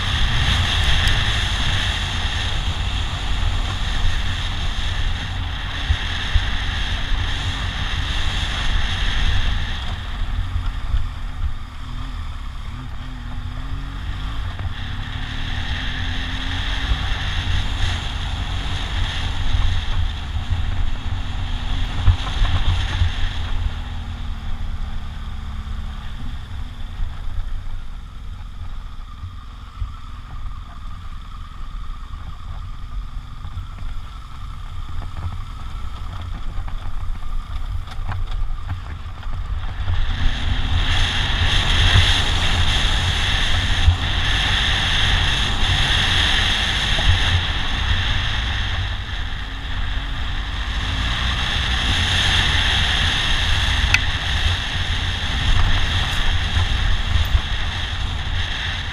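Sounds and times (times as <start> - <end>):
motorcycle engine running: 0.0 - 58.9
wind rumbling on microphone: 0.0 - 58.9.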